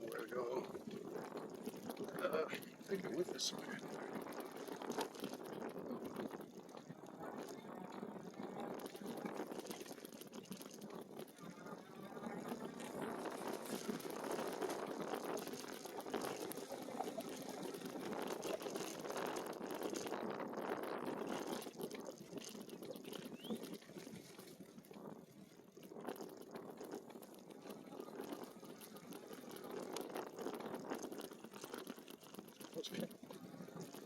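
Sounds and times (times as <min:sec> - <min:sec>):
bike tyres rolling on rough trail: 0:00.0 - 0:34.0.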